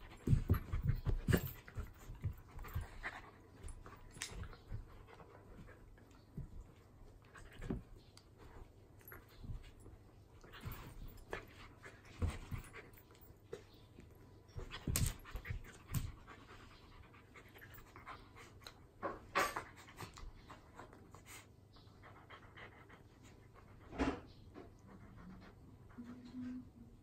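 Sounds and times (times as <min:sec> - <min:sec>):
dogs breathing and scuffling: 0:00.0 - 0:26.3.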